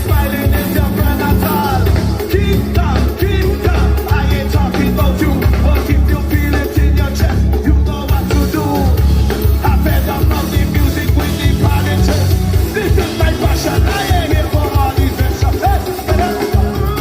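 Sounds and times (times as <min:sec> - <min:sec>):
person singing: 0:00.0 - 0:17.0
rock band playing live: 0:00.0 - 0:17.0.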